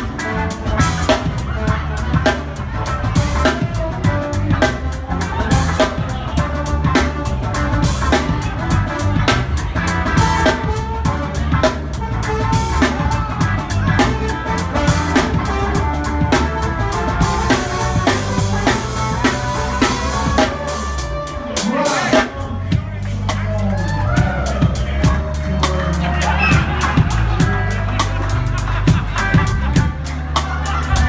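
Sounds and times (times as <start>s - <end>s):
drum kit beat: 0.0s - 31.0s
live rock band playing: 0.0s - 31.0s.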